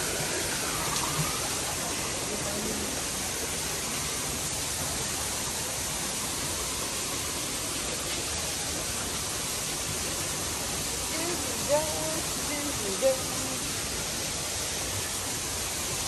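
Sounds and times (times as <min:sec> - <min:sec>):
waterfall pouring into pond: 0:00.0 - 0:16.0.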